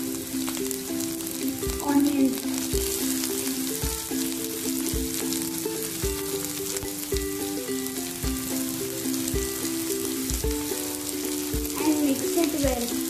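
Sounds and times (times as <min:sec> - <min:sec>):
background music with beat: 0:00.0 - 0:13.0
food sizzling in hot oil: 0:00.0 - 0:13.0.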